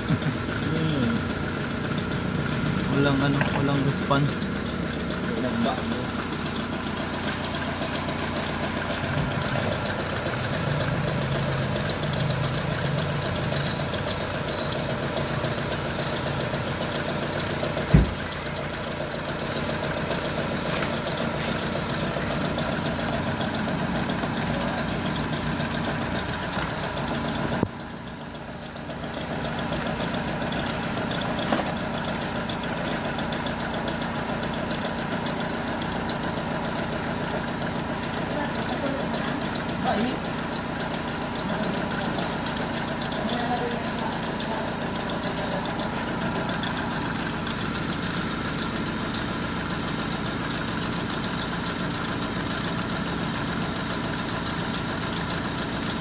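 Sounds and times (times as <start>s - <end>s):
car engine idling unevenly: 0.0s - 56.0s.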